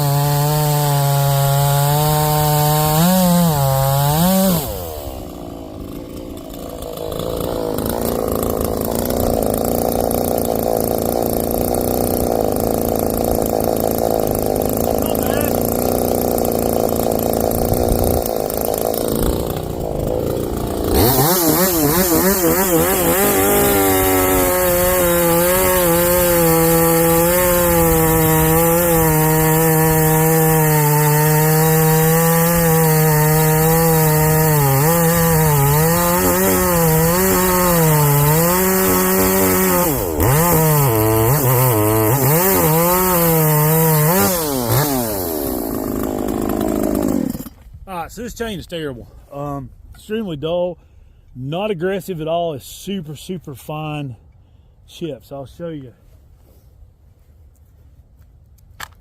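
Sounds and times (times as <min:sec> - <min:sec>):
chainsaw cutting log: 0:00.0 - 0:48.8, 0:58.6 - 0:59.0.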